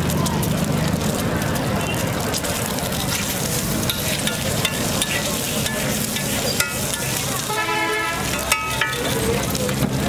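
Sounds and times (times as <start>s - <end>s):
crackles: 0.0s - 10.0s
eggs sizzling on griddle: 0.0s - 10.0s.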